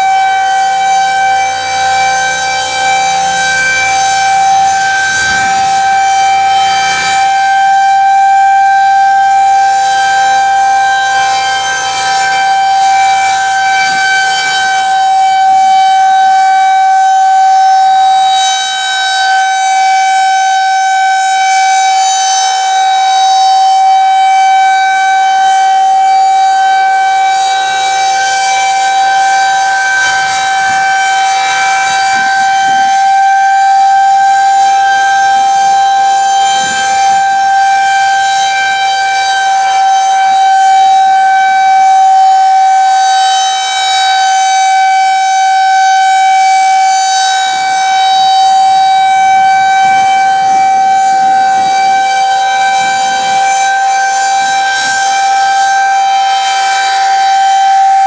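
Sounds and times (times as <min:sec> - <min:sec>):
rotating warning siren: 0:00.0 - 0:58.0.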